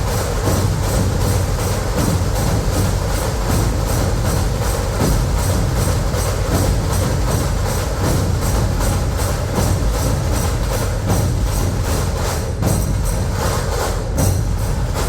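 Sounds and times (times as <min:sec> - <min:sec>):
large drums beating: 0:00.0 - 0:15.0
sharp rapid drum strokes: 0:00.0 - 0:15.0.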